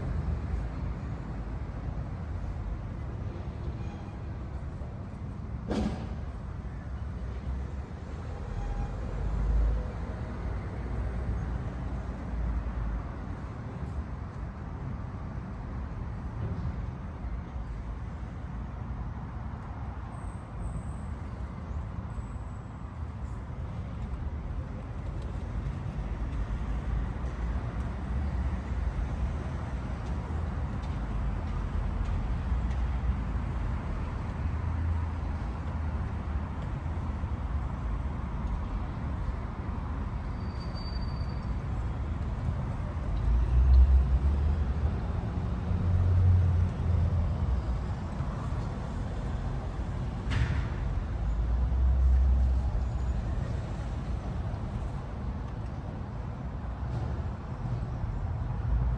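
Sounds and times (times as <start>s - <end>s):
road vehicles passing: 0.0s - 58.9s.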